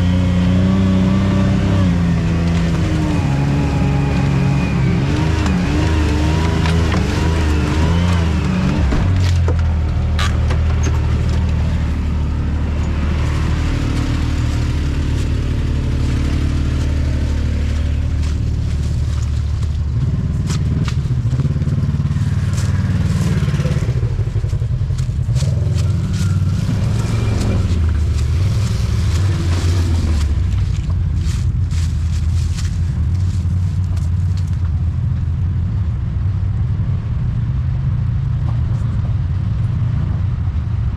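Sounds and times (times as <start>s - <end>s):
off-road vehicle engine running: 0.0s - 40.9s.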